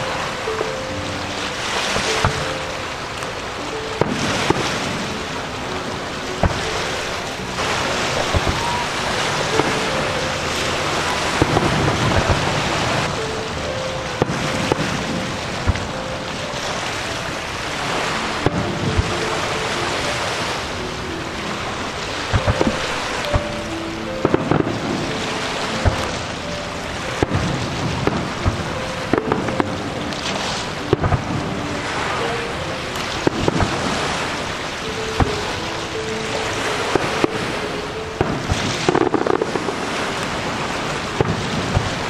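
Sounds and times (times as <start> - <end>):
distant fireworks bangs: 0.0 - 42.0
wind on microphone: 0.0 - 42.0.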